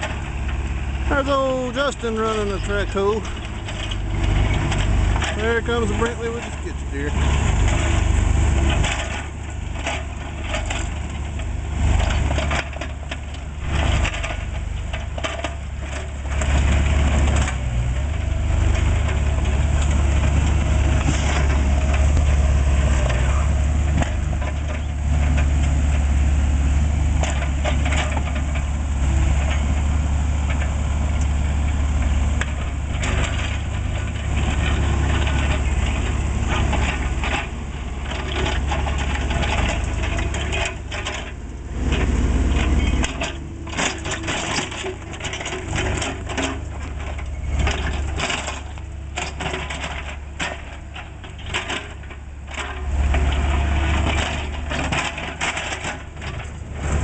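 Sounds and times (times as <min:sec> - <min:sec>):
asphalt chunks dropping: 0:00.0 - 0:08.0, 0:08.6 - 0:57.0
bucket scraping and cracking asphalt: 0:00.0 - 0:57.0
diesel engine running: 0:00.0 - 0:57.0.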